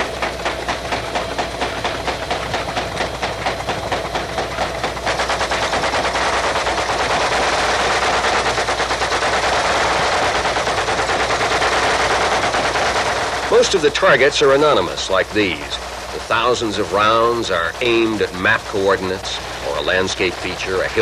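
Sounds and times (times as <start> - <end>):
helicopter engine noise: 0.0 - 21.0
machine guns firing in bursts: 0.0 - 21.0.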